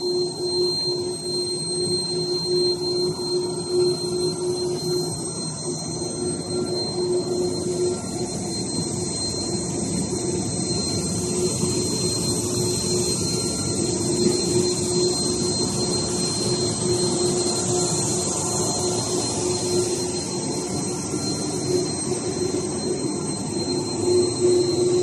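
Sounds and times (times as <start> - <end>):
high-pitched whine: 0.0 - 25.0
workshop machinery running: 0.0 - 25.0.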